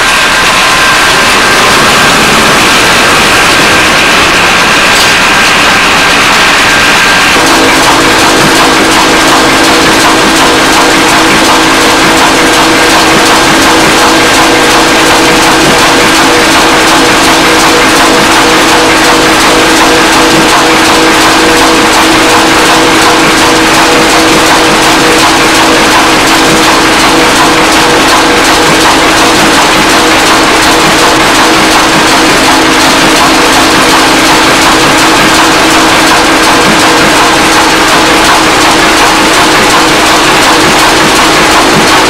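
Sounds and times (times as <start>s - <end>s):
flywheel engine running: 0.0s - 42.0s.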